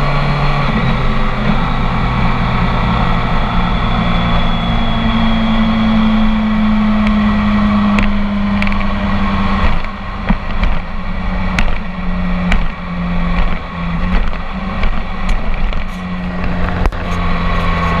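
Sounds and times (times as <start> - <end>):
motorcycle engine: 0.0 - 18.0
exhaust pops: 0.7 - 18.0.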